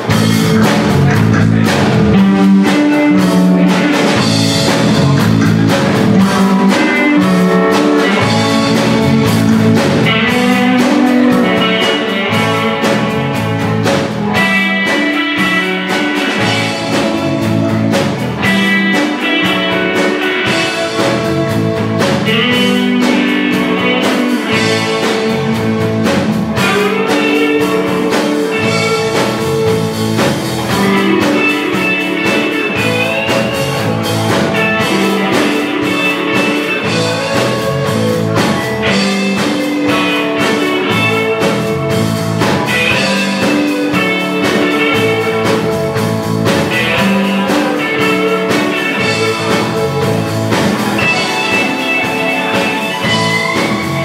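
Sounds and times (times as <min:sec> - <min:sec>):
lead guitar line bending: 0:00.0 - 0:54.0
rock band playing: 0:00.0 - 0:54.0.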